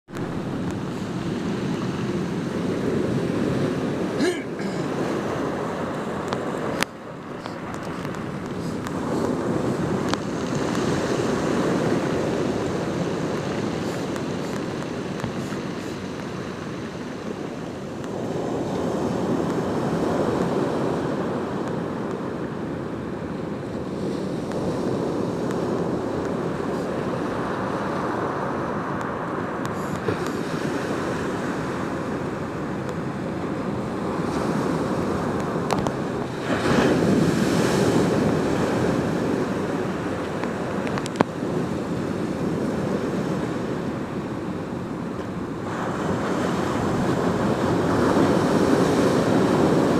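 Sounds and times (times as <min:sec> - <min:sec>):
surf washing up gravel beach: 0:00.1 - 0:49.9.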